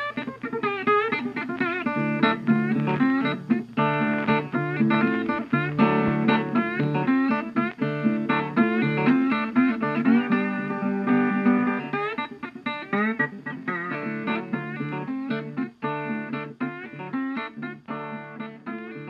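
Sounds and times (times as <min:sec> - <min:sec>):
plucked guitar music: 0:00.0 - 0:19.0.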